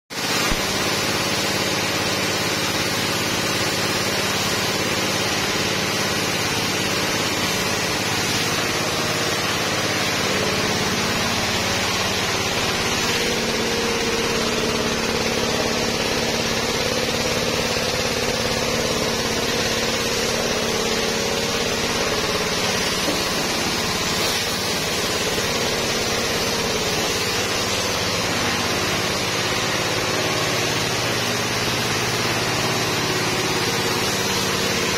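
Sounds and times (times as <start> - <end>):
pressure washer pump humming: 0.1 - 34.9
spray jet hissing: 0.2 - 34.9.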